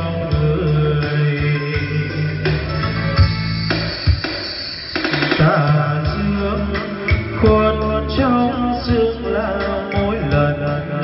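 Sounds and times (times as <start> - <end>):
karaoke music with guitar and bass: 0.0 - 11.0.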